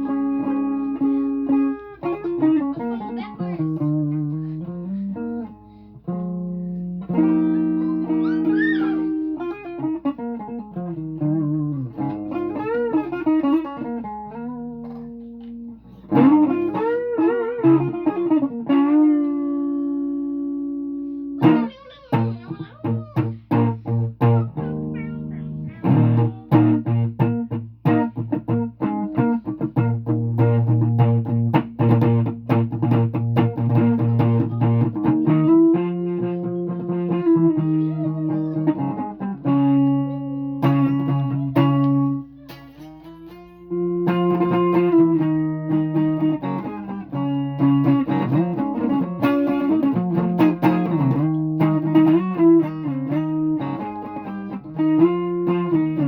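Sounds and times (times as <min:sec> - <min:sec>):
guitar playing: 0:00.0 - 0:56.0.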